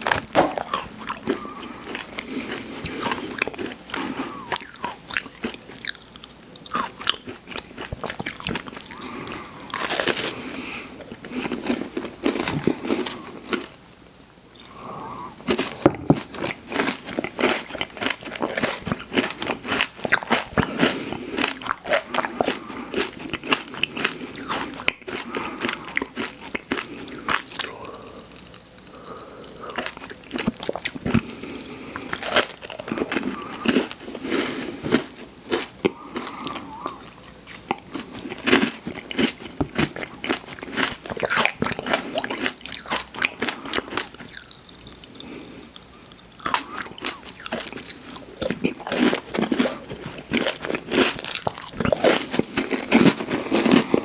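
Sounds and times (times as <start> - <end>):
crunchy snack chewing: 0.0 - 13.8, 14.6 - 54.0.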